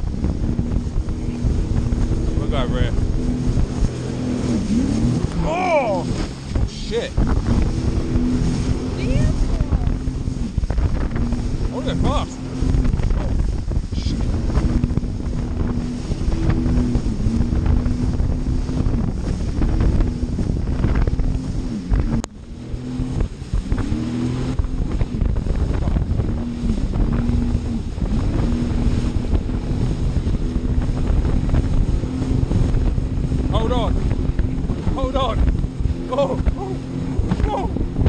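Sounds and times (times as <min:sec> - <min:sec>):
jet ski engine revving: 0:00.0 - 0:38.0
wind buffeting microphone: 0:00.0 - 0:38.0.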